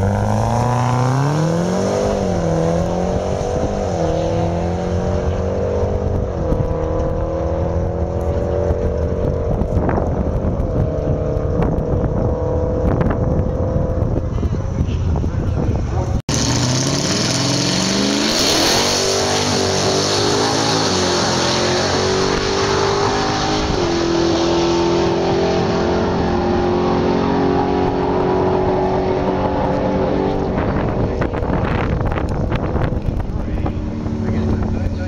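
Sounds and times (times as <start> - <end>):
car engine accelerating hard: 0.0 - 14.9, 16.0 - 35.0.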